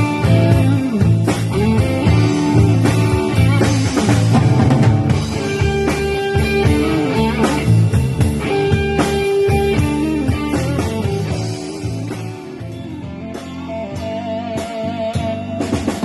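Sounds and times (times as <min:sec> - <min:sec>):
rock band playing: 0:00.0 - 0:16.0
walking bass line: 0:00.0 - 0:16.0.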